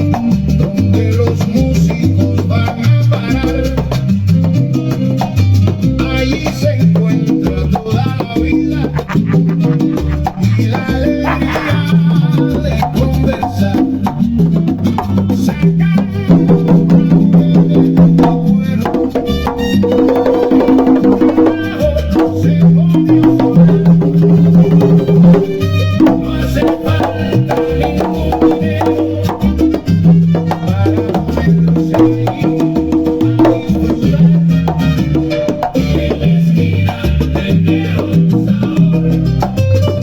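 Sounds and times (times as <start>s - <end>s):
congas: 0.0s - 40.0s
salsa band playing: 0.0s - 40.0s.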